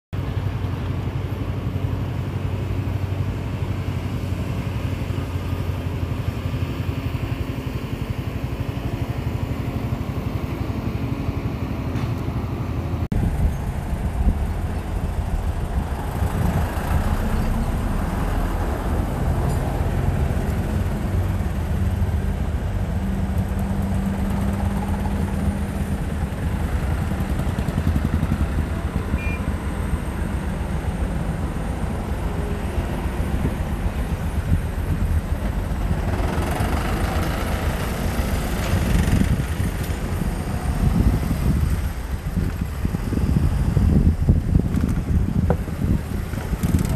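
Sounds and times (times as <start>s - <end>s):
excavator diesel engine rumbling: 0.2s - 46.9s.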